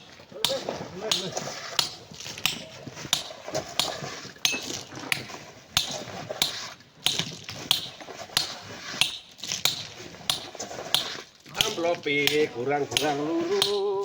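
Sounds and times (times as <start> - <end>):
metal tools striking rock: 0.4 - 14.0.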